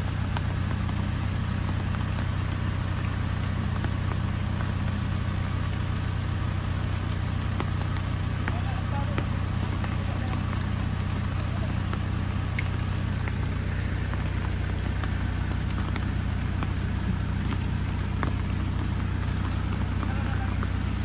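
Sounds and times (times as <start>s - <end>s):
diesel engine idling: 0.0s - 21.0s
rain drops ticking: 0.0s - 21.0s.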